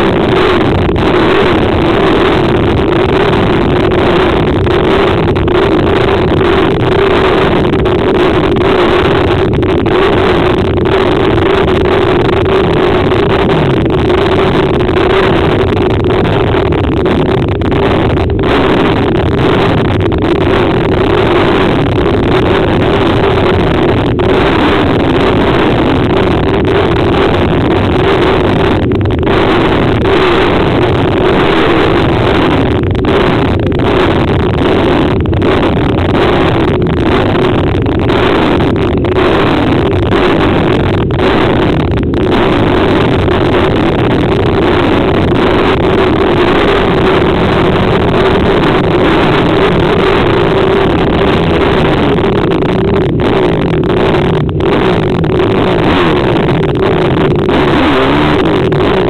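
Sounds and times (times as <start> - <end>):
racing motorcycle engines: 0.0 - 59.0.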